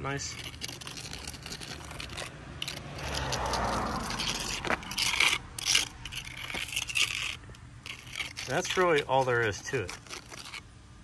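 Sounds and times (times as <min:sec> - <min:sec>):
metal trowel scraping paste: 0:00.0 - 0:10.7
traffic rumbling past: 0:00.0 - 0:11.0.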